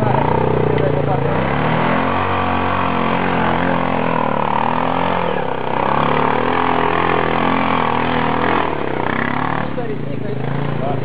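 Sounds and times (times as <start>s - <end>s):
quad bike engine under load: 0.0s - 11.0s.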